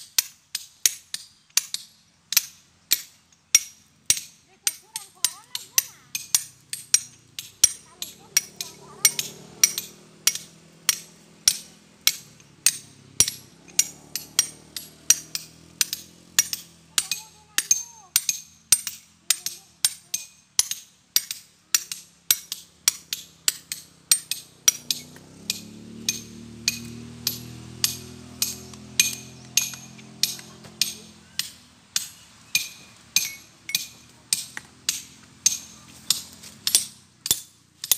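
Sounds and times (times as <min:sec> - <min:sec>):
hammer striking steel chisel: 0:00.0 - 0:37.9.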